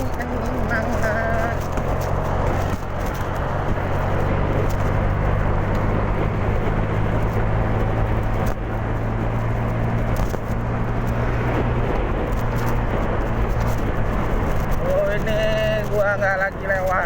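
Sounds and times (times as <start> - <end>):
scooter engine humming: 0.0 - 17.0
wind and road noise: 0.0 - 17.0.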